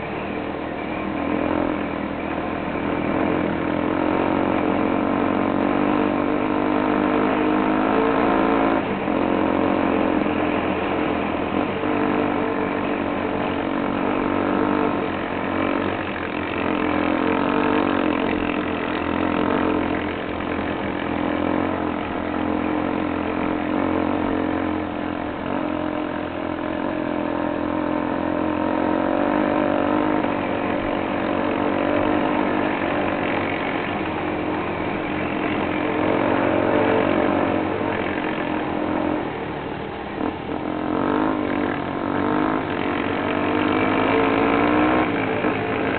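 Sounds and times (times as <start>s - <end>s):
motorcycle engines running: 0.0s - 45.9s.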